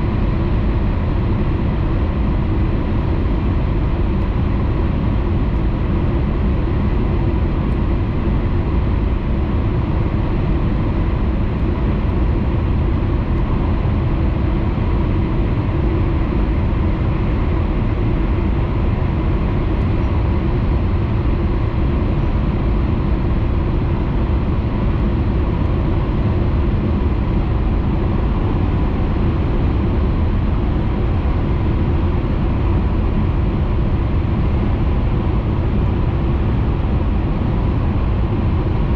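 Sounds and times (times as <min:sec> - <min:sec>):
train running noise in cabin: 0:00.0 - 0:38.9.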